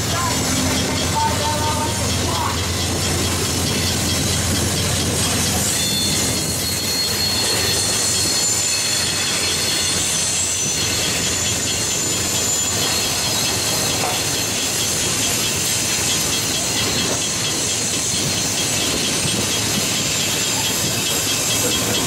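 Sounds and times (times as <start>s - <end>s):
freight cars rolling on rails: 0.0s - 22.0s
high-pitched wheel squeal: 0.1s - 22.0s.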